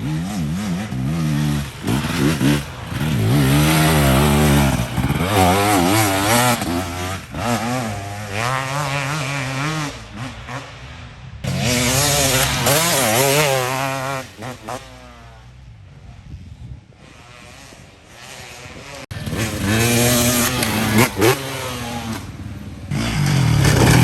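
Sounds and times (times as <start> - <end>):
dirt bike engine revving: 0.0 - 15.6, 17.0 - 24.0.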